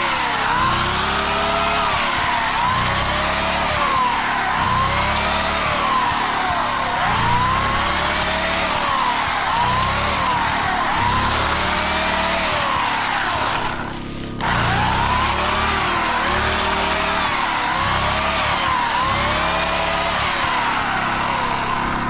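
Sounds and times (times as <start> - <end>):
string trimmer engine running hard: 0.0 - 22.0.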